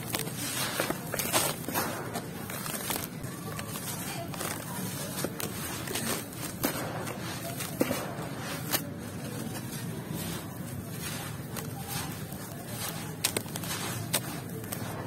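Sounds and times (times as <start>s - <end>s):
grit pouring: 0.0s - 15.0s
gritty crunching of crumbling cement: 0.0s - 15.0s.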